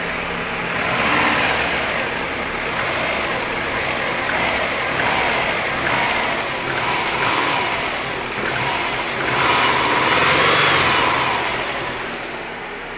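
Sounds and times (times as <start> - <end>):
car engine idling and revving: 0.0 - 12.9.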